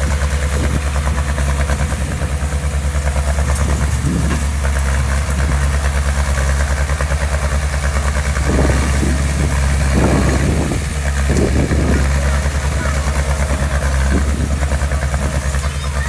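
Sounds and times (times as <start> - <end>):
diesel engine of heavy machinery: 0.0 - 16.0.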